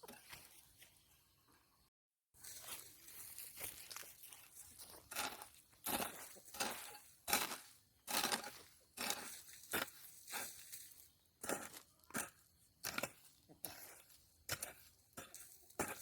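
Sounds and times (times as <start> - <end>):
hand tool digging into soil: 2.6 - 16.0.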